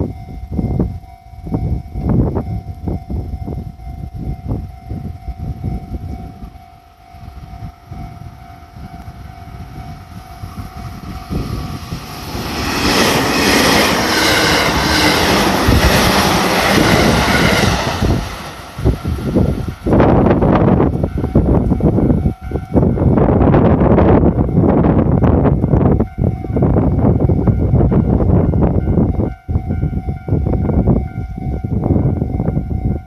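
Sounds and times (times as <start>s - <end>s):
train wheel and rail noise: 0.0s - 33.0s.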